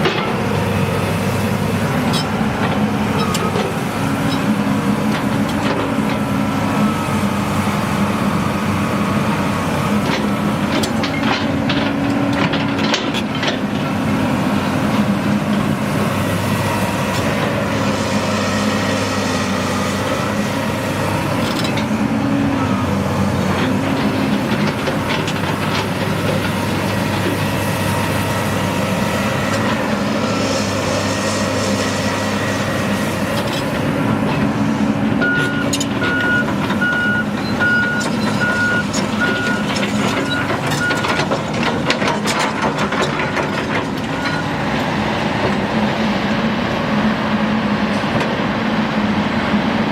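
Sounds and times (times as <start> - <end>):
excavator diesel engine running: 0.0 - 49.9
hydraulics whining: 0.0 - 49.9.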